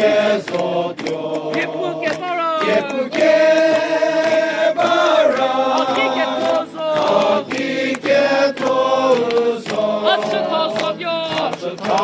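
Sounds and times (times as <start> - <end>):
group of people singing: 0.0 - 12.0.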